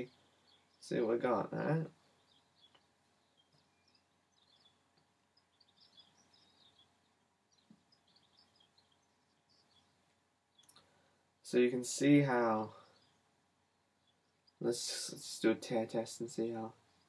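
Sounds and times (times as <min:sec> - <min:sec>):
faint high bird chirps: 0:00.0 - 0:17.0.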